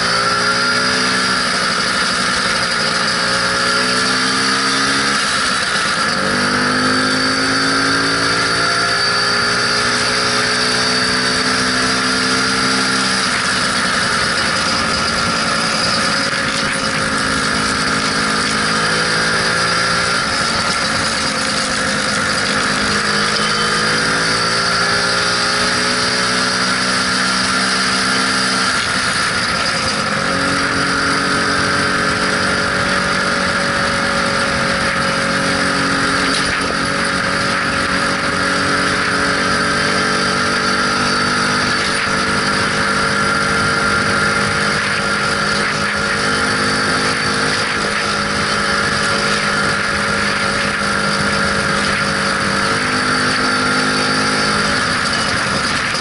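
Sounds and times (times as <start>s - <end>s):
scooter engine cruising: 0.0s - 56.0s
wind and road noise: 0.0s - 56.0s.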